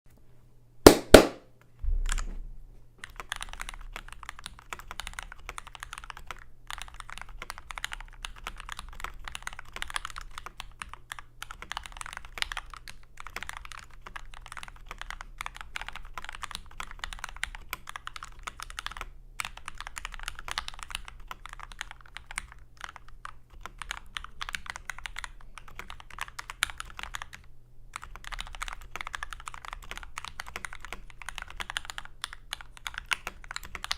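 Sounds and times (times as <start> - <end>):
faint low hum: 0.1 - 33.9
mechanical keyboard typing: 3.0 - 33.9.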